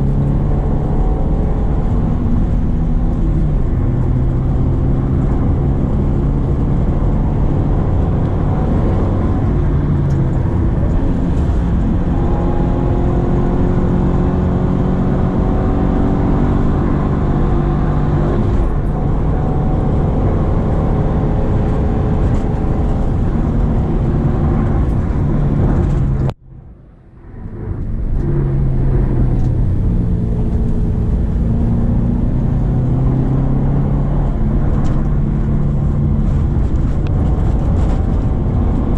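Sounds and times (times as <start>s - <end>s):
car engine running under load: 0.0s - 38.9s.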